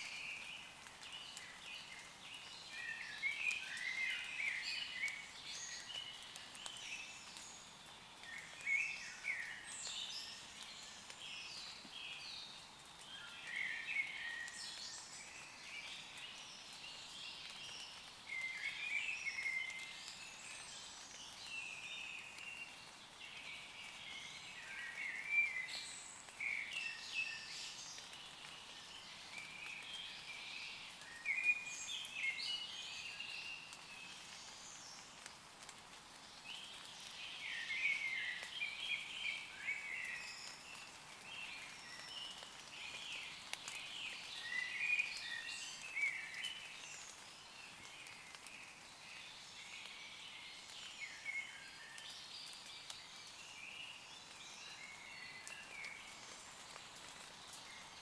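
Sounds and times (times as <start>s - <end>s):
birds singing and chirping: 0.0s - 35.1s, 36.3s - 58.0s
rain falling on leaves: 0.0s - 58.0s.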